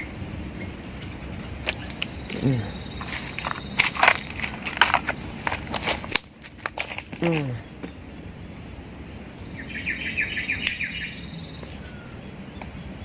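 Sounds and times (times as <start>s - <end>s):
high insect buzz: 0.0s - 12.4s
outdoor background hiss: 0.0s - 13.0s
small bird chirping: 0.0s - 13.0s.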